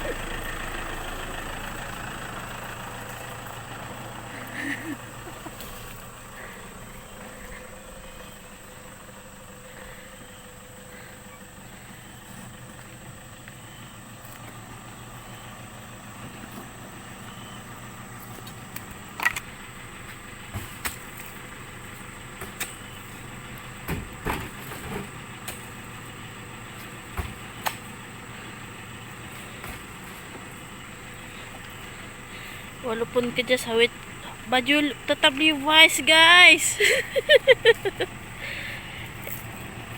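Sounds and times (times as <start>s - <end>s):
motor idling: 0.0s - 39.9s.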